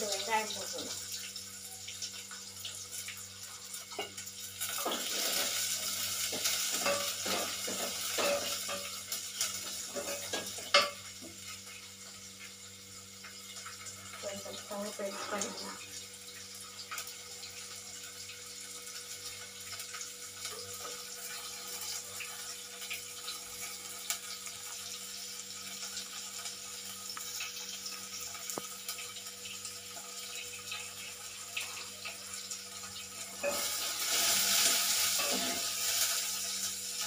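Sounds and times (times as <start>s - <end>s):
onions sizzling in hot oil: 0.0s - 37.0s.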